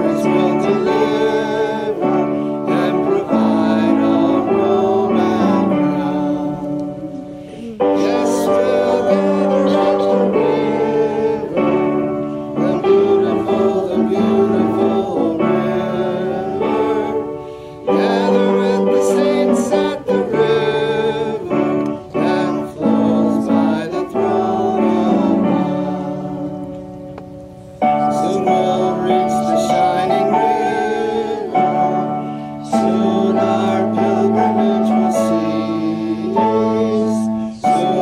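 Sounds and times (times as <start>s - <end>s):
congregation singing a hymn: 0.0s - 38.0s
piano accompaniment: 0.0s - 38.0s.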